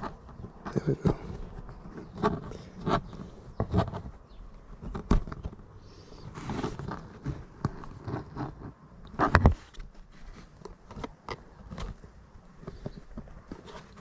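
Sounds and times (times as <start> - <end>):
hands handling car interior parts: 0.0 - 14.0.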